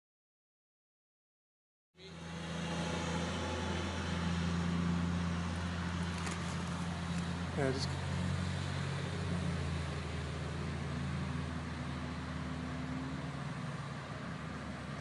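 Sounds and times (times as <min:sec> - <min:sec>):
car running with road noise: 0:02.0 - 0:15.0.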